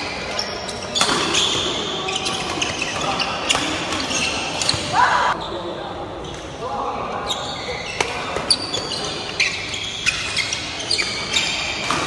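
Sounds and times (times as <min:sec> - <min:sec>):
shoes squeaking on court floor: 0:00.0 - 0:05.6, 0:07.2 - 0:12.0.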